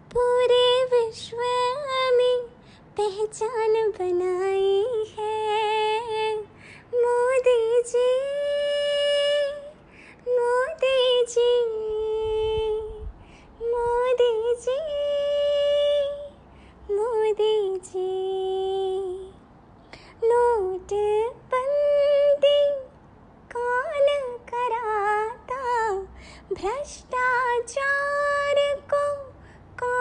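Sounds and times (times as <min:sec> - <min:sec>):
woman singing unaccompanied: 0:00.0 - 0:19.4, 0:20.0 - 0:30.0.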